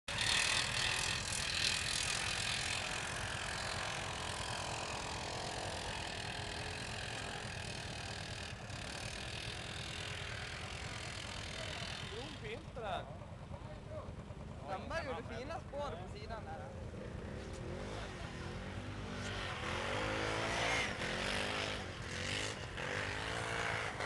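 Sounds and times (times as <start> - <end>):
atv engine running: 0.1 - 24.0.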